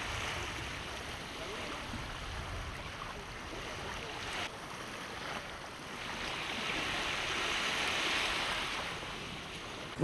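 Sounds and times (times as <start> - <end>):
sea water: 0.0 - 10.0
wind: 0.0 - 10.0.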